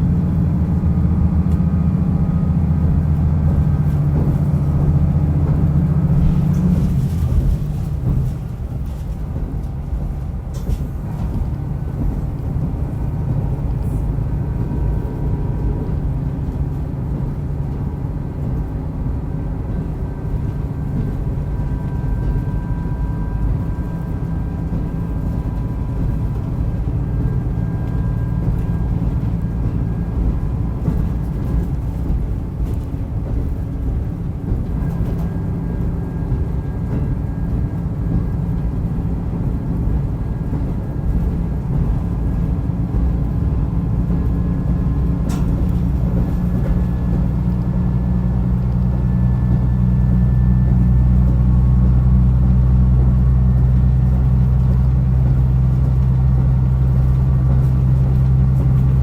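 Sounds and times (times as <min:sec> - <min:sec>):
railcar engine and wheel drone: 0:00.0 - 0:59.0.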